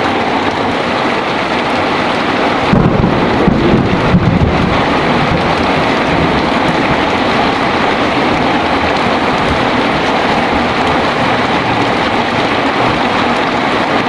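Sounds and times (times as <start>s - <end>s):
heavy rain pouring: 0.0s - 14.0s
low rumble of storm and wind: 0.1s - 14.0s.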